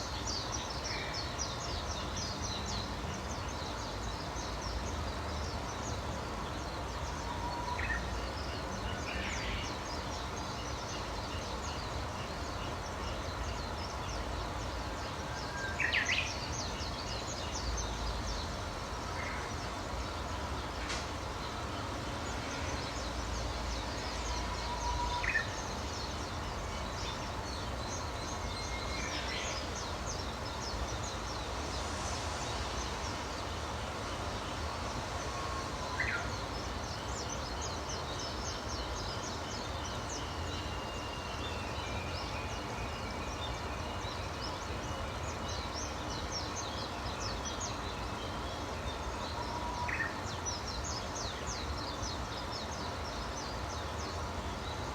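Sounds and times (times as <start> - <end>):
background hiss: 0.0 - 54.9.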